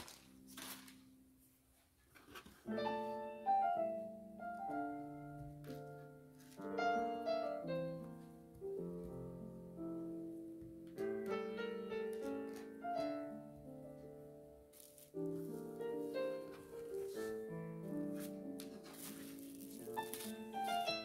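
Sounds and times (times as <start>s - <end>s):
background piano music: 0.0s - 1.5s, 2.7s - 21.0s.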